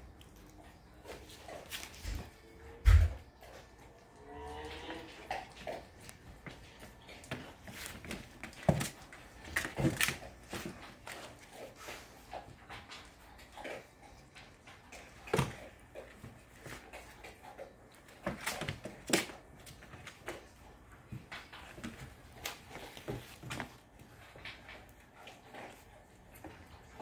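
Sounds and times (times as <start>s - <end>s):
puppies scuffling on plastic: 0.4s - 27.0s.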